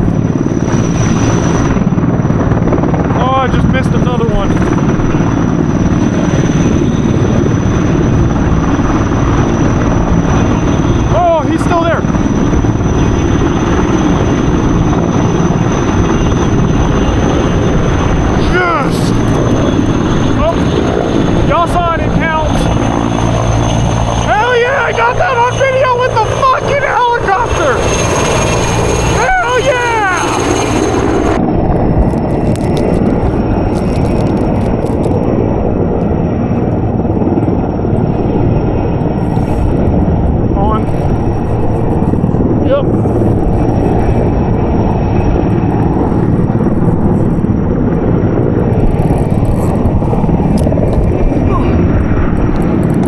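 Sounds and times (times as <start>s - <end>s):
helicopter rotor and engine: 0.0s - 53.0s.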